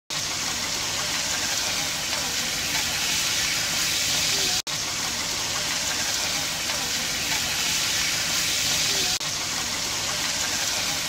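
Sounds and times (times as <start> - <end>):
fish sizzling in oil: 0.1 - 11.0.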